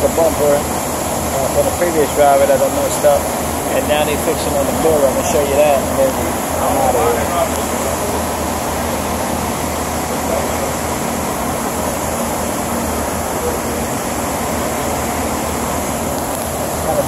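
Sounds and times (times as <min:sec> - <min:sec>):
repair shop background rush: 0:00.0 - 0:17.0.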